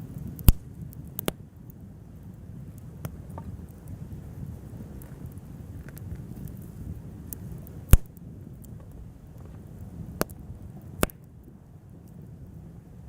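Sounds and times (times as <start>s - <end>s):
sharp pops of fire: 0.0s - 12.2s
bonfire crackling: 0.0s - 13.0s
low steady rumble: 0.0s - 13.0s.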